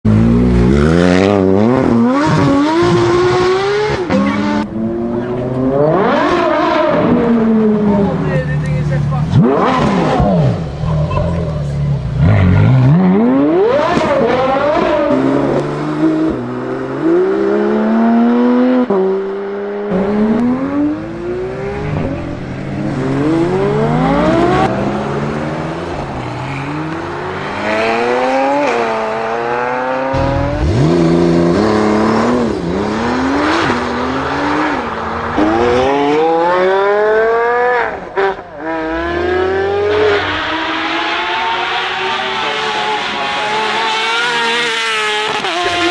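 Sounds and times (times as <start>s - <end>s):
sports car engines accelerating: 0.0s - 45.9s.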